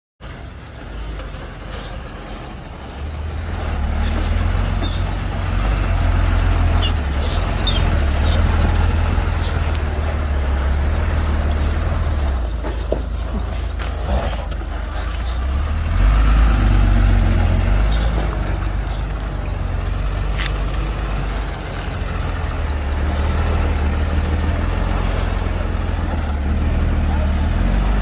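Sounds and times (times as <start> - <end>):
heavy diesel engine droning: 0.2 - 28.0.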